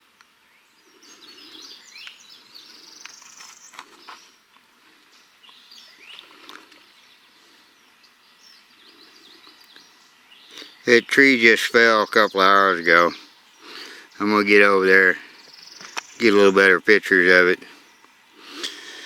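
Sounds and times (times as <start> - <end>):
songbirds twittering: 0.0 - 19.0.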